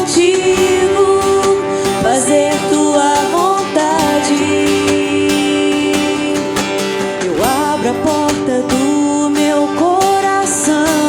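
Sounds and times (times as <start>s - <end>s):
sliding lead melody: 0.0s - 11.0s
strummed acoustic guitars: 0.0s - 11.0s.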